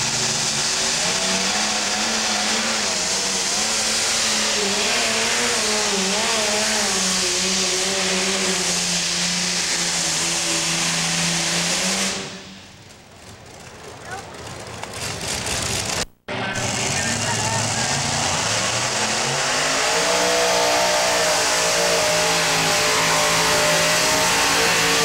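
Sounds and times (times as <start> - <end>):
tractor engine roaring: 0.0 - 25.0.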